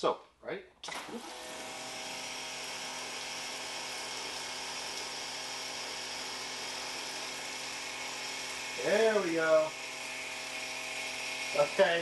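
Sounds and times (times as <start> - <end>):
pressure washer motor whine: 0.8 - 12.0.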